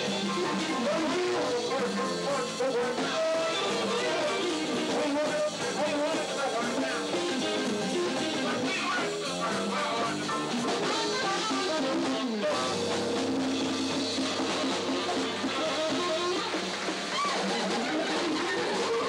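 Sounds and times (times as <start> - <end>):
jazz band playing: 0.0 - 19.0.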